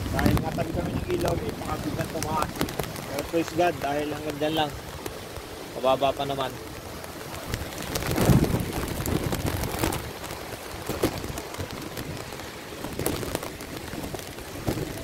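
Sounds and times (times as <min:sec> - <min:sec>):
wind gust on microphone: 0:00.0 - 0:05.5, 0:06.6 - 0:15.0
rain falling: 0:00.0 - 0:15.0
raindrops tapping on microphone: 0:00.0 - 0:15.0.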